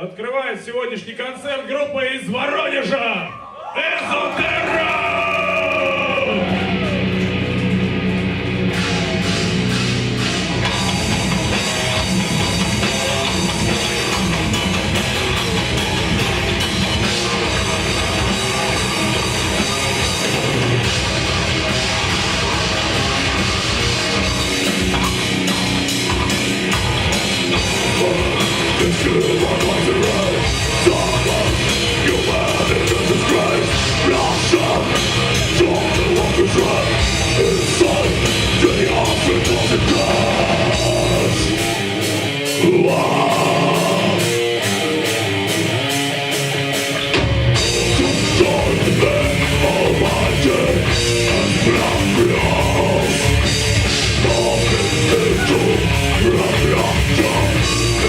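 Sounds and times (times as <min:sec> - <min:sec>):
death metal band playing live: 0:04.4 - 0:58.0.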